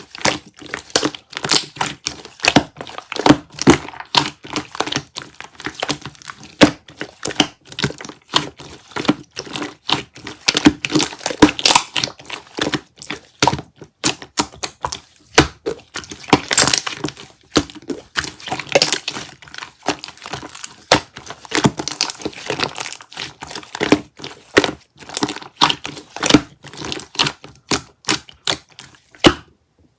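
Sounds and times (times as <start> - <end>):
slime squishing and popping: 0.0 - 29.5.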